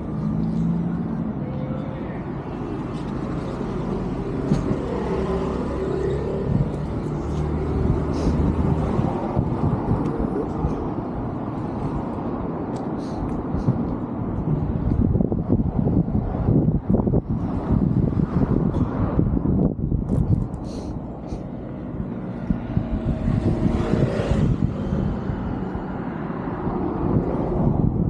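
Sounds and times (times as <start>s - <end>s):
traffic passing: 0.0s - 28.0s.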